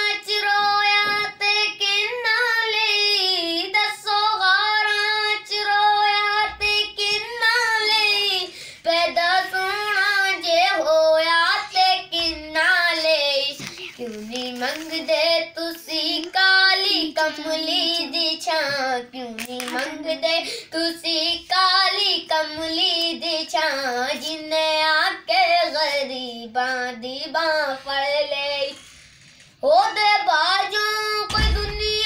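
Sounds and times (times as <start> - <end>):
boy singing solo: 0.0 - 28.8, 29.6 - 32.0.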